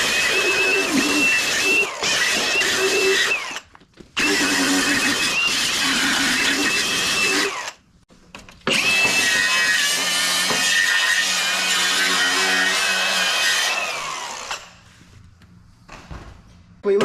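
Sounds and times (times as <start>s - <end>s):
angle grinder grinding metal: 0.0s - 7.8s, 8.7s - 14.8s.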